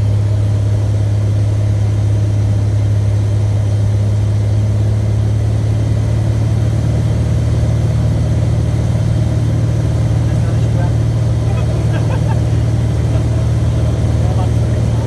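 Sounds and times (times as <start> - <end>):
aircraft engine drone in cockpit: 0.0 - 15.0.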